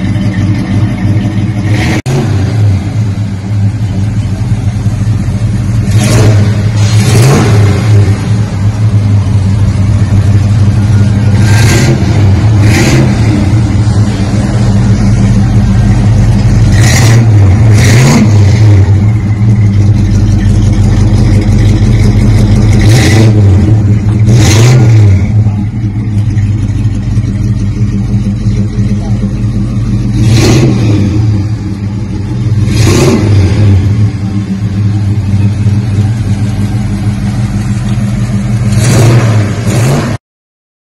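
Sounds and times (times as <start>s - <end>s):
vee eight engine idling and revving: 0.0s - 40.2s.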